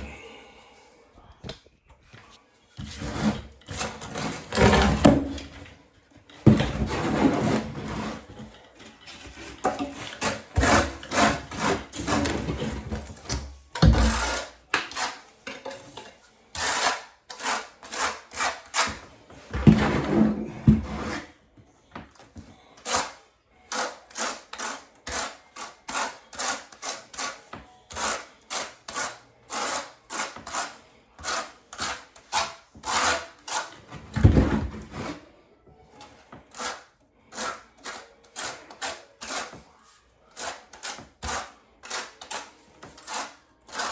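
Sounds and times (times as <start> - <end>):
hand tool scraping tile: 2.8 - 5.7, 6.3 - 21.3, 22.8 - 35.2, 36.0 - 43.9.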